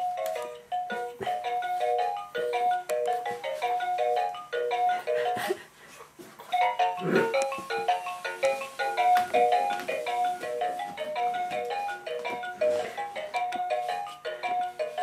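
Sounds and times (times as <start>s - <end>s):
electronic toy chiming melody: 0.0s - 5.4s, 6.5s - 15.0s.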